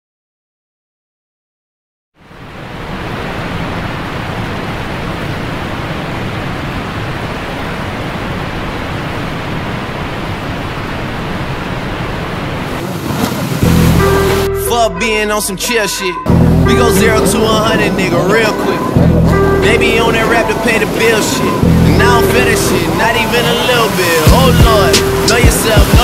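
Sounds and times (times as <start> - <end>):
rushing noise with low rumble: 2.2 - 14.6, 16.3 - 26.0.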